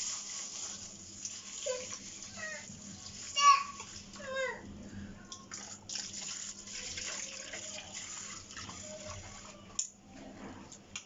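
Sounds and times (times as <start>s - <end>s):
tap water running and splashing: 0.0s - 4.6s, 5.3s - 9.9s.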